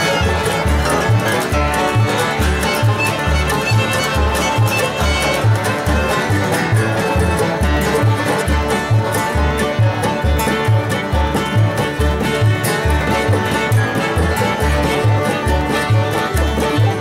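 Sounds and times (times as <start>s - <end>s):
acoustic bluegrass band playing: 0.0s - 17.0s
upright bass plucking: 0.0s - 17.0s.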